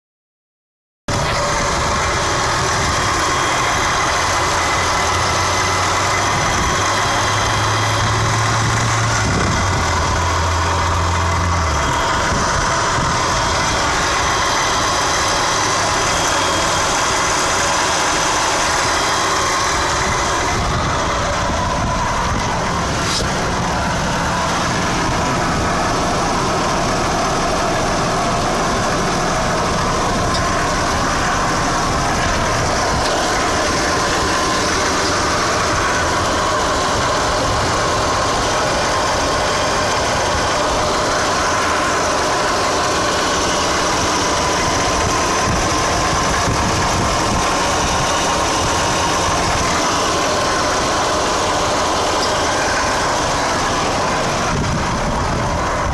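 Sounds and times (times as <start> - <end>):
rotary engine idling: 1.1 - 55.9.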